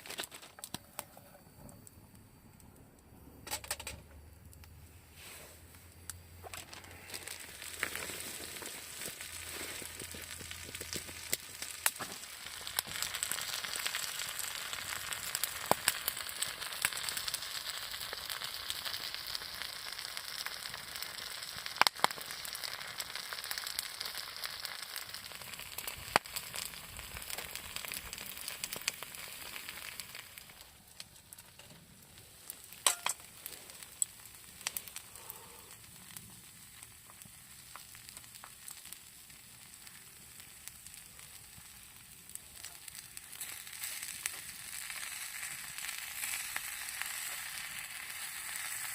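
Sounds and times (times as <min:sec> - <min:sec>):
sharp pops and crackles: 0:00.0 - 0:02.8, 0:05.6 - 0:48.9
food sizzling in a pan: 0:06.2 - 0:31.4, 0:32.0 - 0:48.9.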